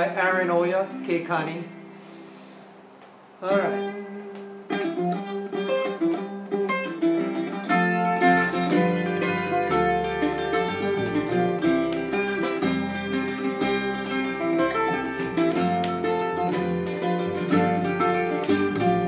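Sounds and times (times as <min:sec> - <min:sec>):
steel-string tiple chords strummed: 0:03.4 - 0:19.0.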